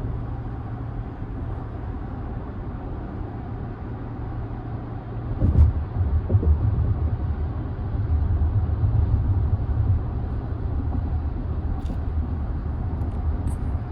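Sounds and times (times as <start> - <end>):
tyre and road noise in car cabin: 0.0 - 13.9.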